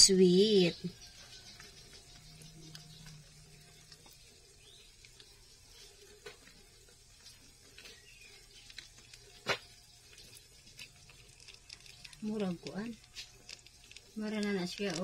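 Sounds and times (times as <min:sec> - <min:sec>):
bread and egg frying: 0:00.0 - 0:15.0.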